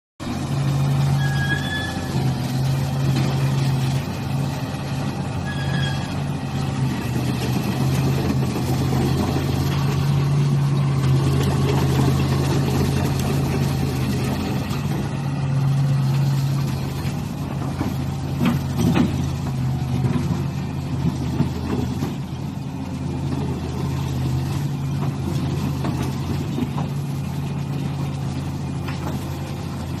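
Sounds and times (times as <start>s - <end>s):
excavator diesel engine running: 0.2s - 30.0s.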